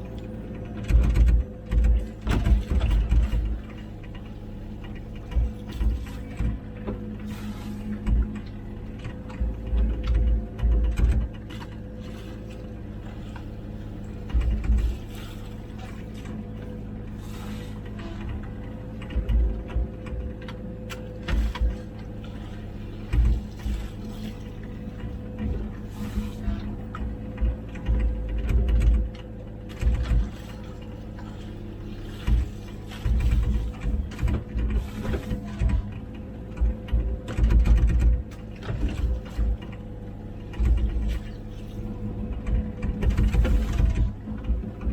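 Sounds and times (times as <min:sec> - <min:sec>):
excavator diesel engine running: 0:00.0 - 0:44.9
machine rattling and clanking: 0:00.0 - 0:44.9
water sloshing: 0:00.0 - 0:44.9.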